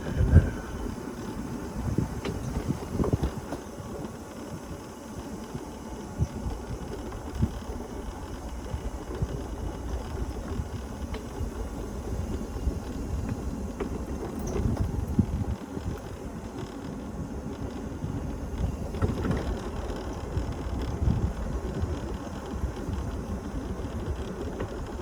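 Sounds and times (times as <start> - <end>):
mobility scooter rumbling: 0.0 - 25.0.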